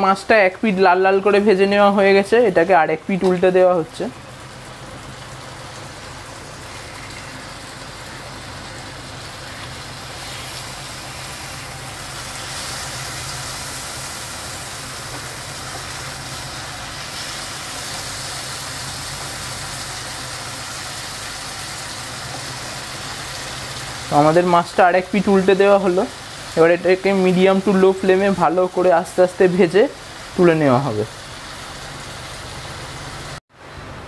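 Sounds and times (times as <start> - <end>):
fish sizzling in oil: 0.0 - 33.7.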